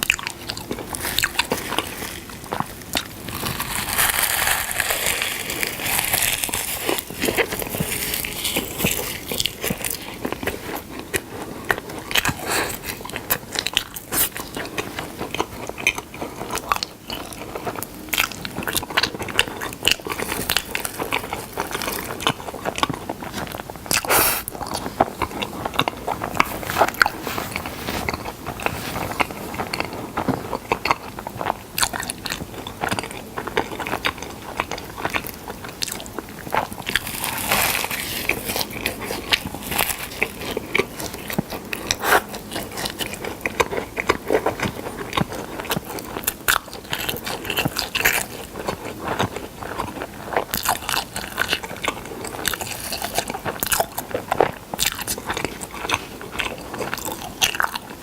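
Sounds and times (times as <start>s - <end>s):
biting and chewing honey: 0.0s - 58.0s.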